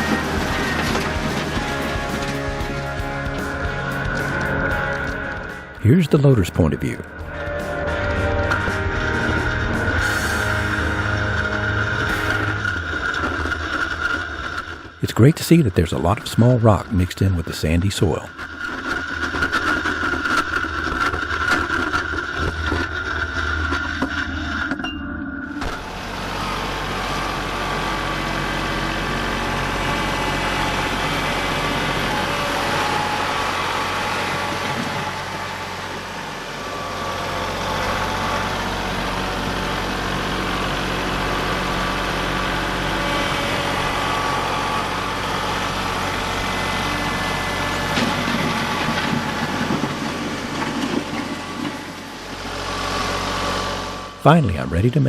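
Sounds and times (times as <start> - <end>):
tractor diesel engine running: 0.0 - 24.3, 25.6 - 55.0.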